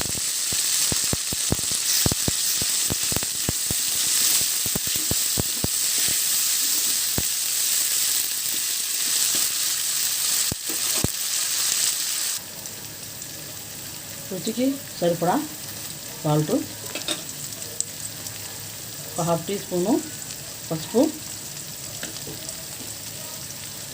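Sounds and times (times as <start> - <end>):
masala sizzling in hot oil: 0.0 - 23.9.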